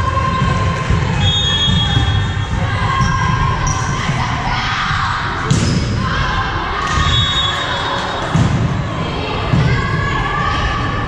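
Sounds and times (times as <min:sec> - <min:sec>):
spectators' voices: 0:00.0 - 0:11.0.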